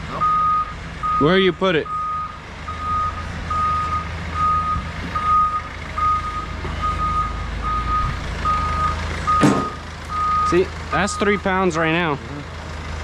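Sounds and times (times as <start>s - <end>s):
engine rumble: 0.0s - 13.0s
reversing alarm beeping: 0.2s - 11.5s.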